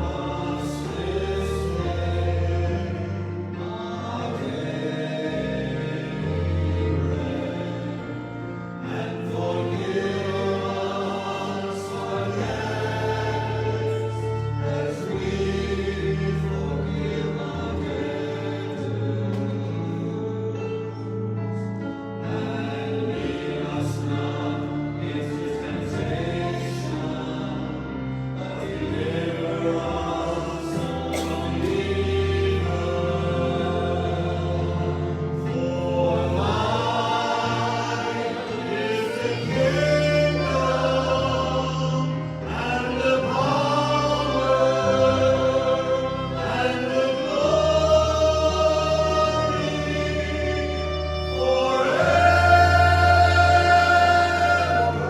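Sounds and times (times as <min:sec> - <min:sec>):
group singing worship song: 0:00.0 - 0:55.0
instrumental bass accompaniment: 0:00.0 - 0:55.0.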